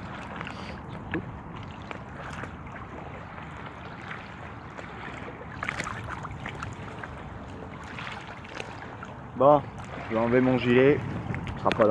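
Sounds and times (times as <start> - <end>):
small water splashes: 0.0 - 11.9
small waves lapping at shoreline: 0.0 - 11.9.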